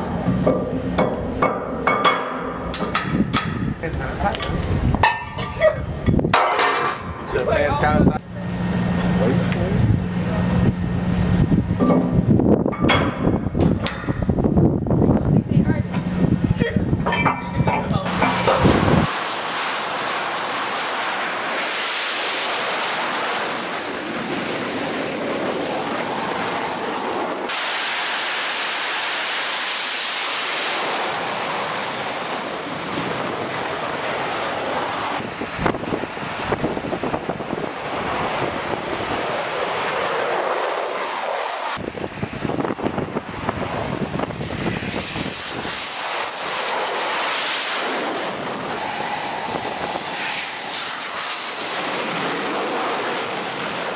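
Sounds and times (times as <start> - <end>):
high whine: 0.0 - 26.0, 26.7 - 53.9
jet engines rushing: 0.0 - 53.9.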